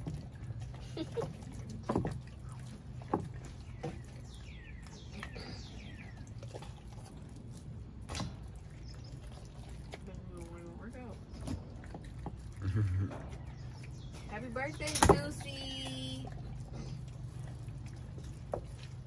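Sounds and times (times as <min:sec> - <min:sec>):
dog chewing raw chicken: 0:00.0 - 0:14.4, 0:15.2 - 0:19.0.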